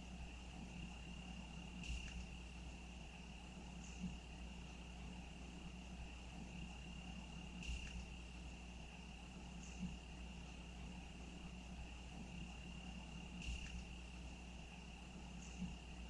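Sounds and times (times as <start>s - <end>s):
crickets trilling: 0.0s - 16.0s
low steady hum: 0.0s - 16.0s.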